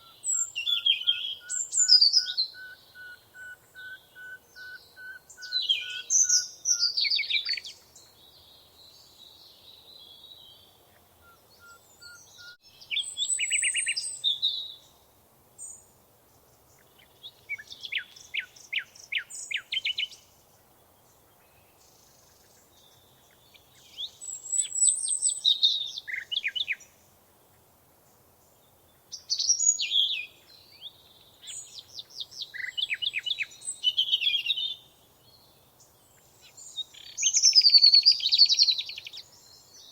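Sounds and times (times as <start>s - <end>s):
faint background hiss: 0.0s - 39.9s
songbirds trilling and chirping: 0.0s - 39.9s.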